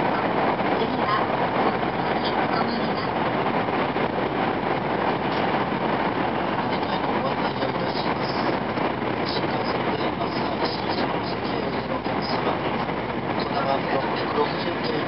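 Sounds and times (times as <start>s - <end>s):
train rushing and rumbling at speed: 0.0s - 15.0s.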